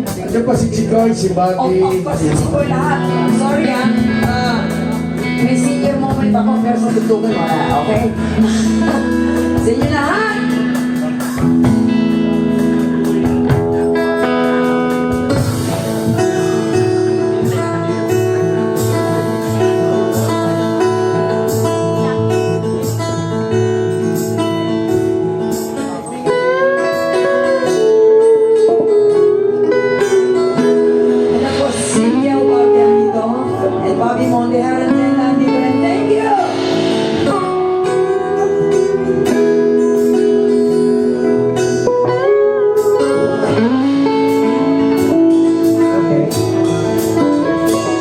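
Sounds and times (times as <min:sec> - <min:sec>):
live band with guitar: 0:00.0 - 0:48.0.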